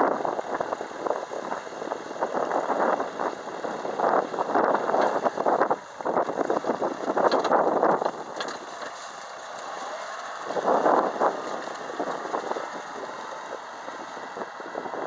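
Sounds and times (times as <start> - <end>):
tractor engine running: 0.0 - 15.0
wind buffeting microphone: 0.0 - 15.0.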